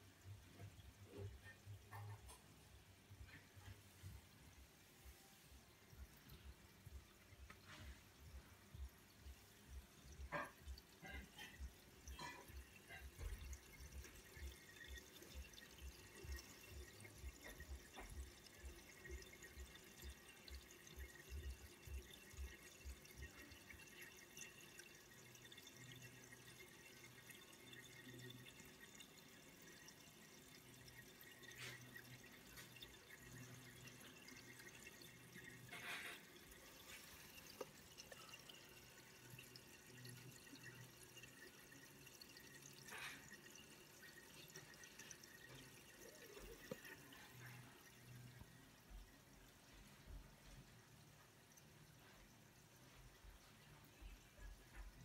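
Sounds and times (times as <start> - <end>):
water trickling and dripping: 0.0 - 55.0.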